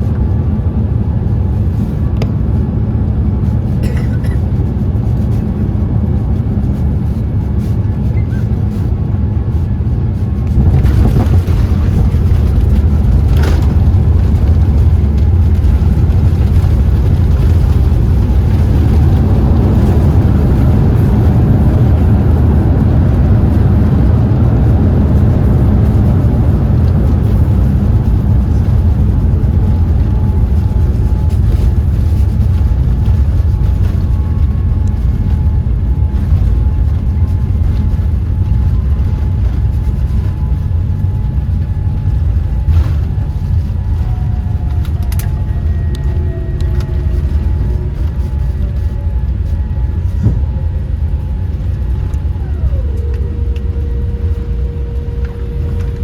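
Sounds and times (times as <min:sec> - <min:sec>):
airliner cabin rumble: 0:00.0 - 0:56.0
rushing air noise: 0:04.6 - 0:56.0.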